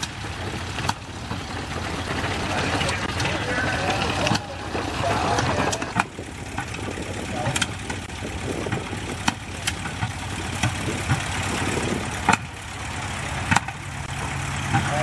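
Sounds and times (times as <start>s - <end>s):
aircraft engine idling: 0.0s - 15.0s.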